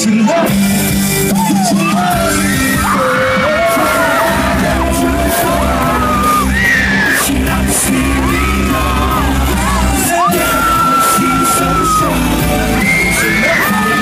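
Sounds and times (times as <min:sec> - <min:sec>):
man singing: 0:00.0 - 0:00.6, 0:01.3 - 0:14.0
pop backing track with bass beat: 0:00.0 - 0:14.0
fans screaming: 0:01.1 - 0:14.0.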